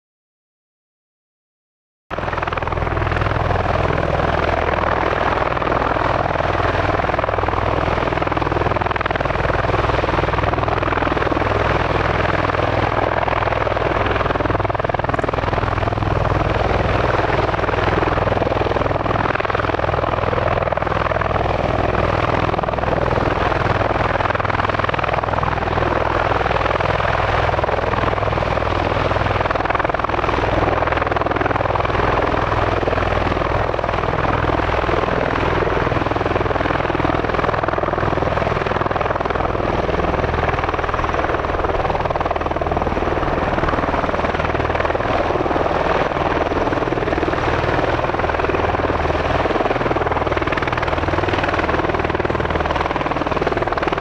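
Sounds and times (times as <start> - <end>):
deep rotor drone: 2.1 - 54.0.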